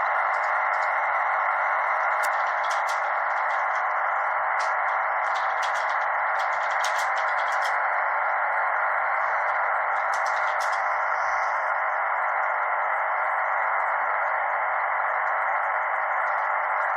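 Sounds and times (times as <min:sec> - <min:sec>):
shortwave radio static hiss: 0:00.0 - 0:13.8.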